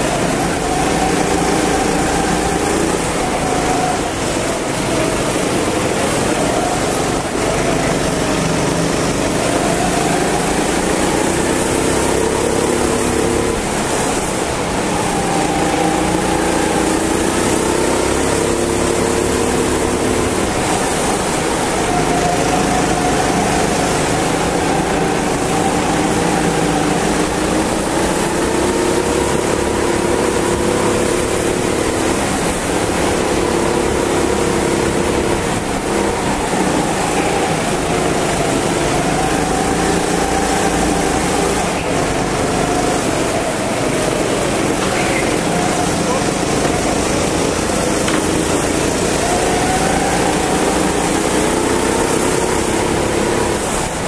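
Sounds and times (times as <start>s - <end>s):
go-kart engine revving: 0.0s - 54.0s
wind and road noise hiss: 0.0s - 54.0s.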